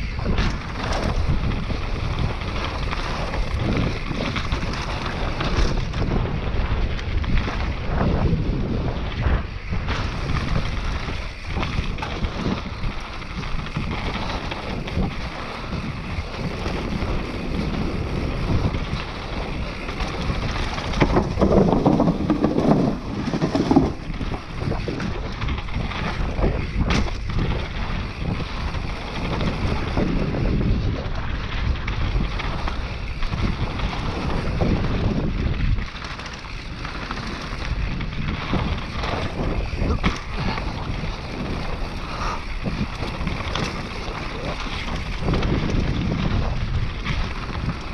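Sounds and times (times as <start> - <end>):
bike rattling over bumps: 0.0 - 47.9
tyres rumbling on dirt: 0.0 - 47.9
wind buffeting microphone: 0.0 - 47.9.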